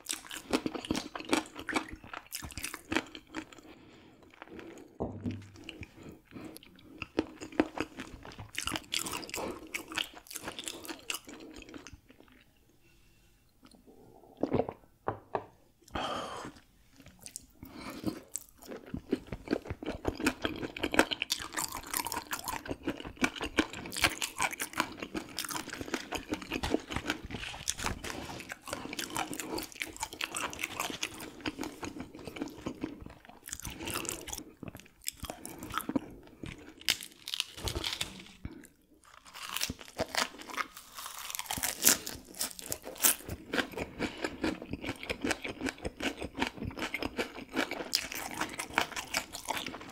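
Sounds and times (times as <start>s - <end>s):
crunchy chewing of fish bones: 0.0s - 5.0s, 5.6s - 12.4s, 17.0s - 49.9s.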